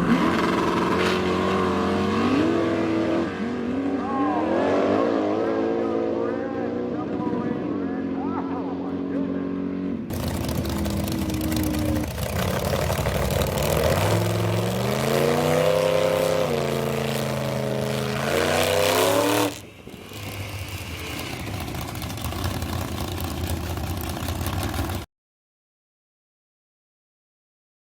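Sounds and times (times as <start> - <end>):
drag racing car engine revving: 0.0 - 25.0.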